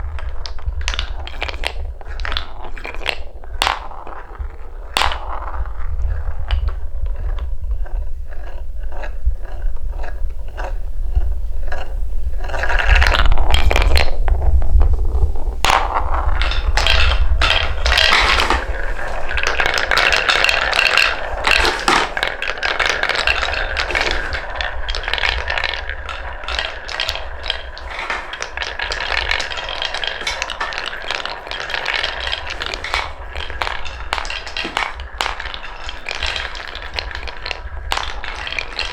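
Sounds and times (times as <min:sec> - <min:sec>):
balls rolling on wooden marble run: 0:00.0 - 0:38.9.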